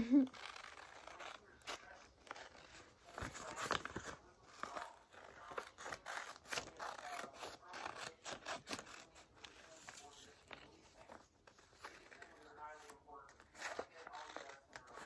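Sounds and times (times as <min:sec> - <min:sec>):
scissors cutting paper: 0:00.0 - 0:15.0.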